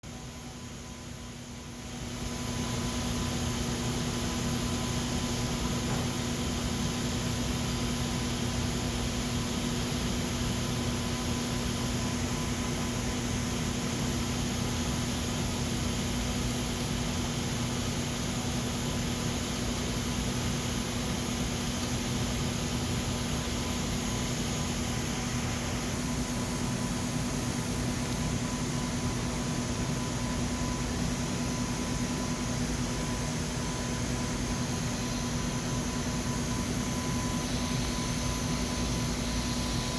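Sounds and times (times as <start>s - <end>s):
laser welding machine hiss and hum: 0.1s - 39.9s.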